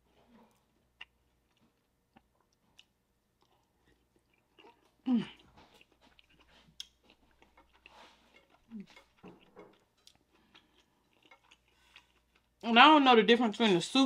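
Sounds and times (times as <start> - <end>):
wet chewing: 0.2 - 12.6.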